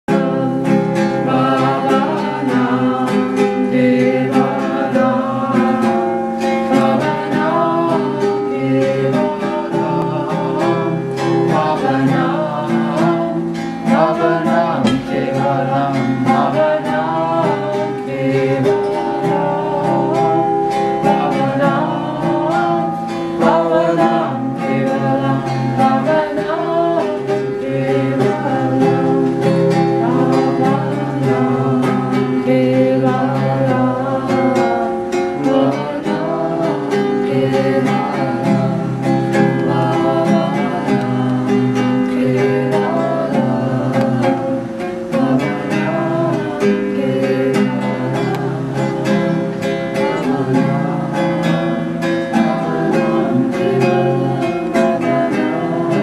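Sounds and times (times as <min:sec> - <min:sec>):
acoustic guitar strumming: 0:00.0 - 0:56.0
person singing: 0:00.0 - 0:56.0.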